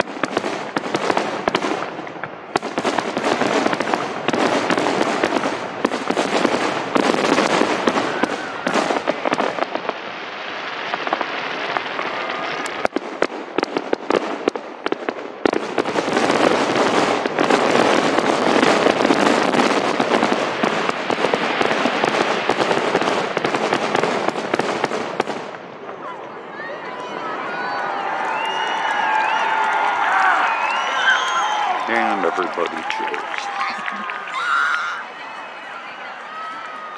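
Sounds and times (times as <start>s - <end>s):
fireworks crackling and banging: 0.0s - 36.9s.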